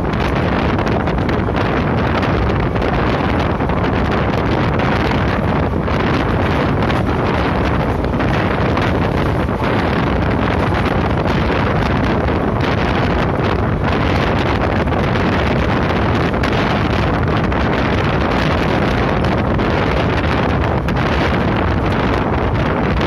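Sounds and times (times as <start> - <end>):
train running noise: 0.0 - 23.0
wind blasting across microphone: 0.0 - 23.0.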